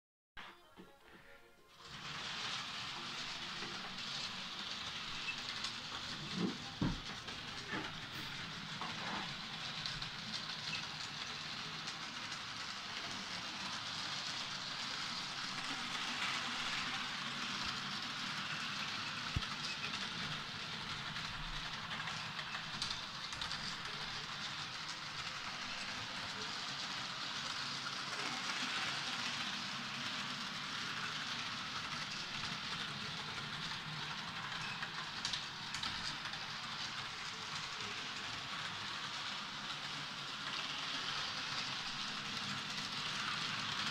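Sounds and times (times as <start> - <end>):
model train motor whirring: 1.8 - 43.9
wheels rattling on rails: 1.8 - 43.9.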